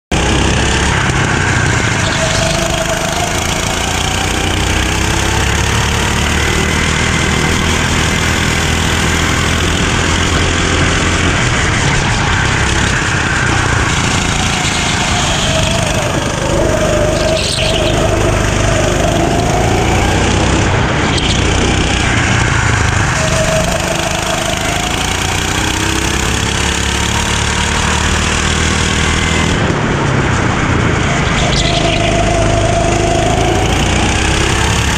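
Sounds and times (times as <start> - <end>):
go-kart engine revving: 0.0 - 34.9.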